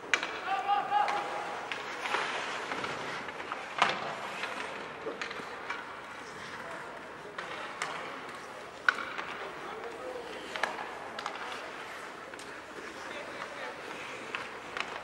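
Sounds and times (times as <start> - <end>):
arena crowd noise: 0.0 - 15.0
hockey sticks and puck clacking: 0.0 - 15.0.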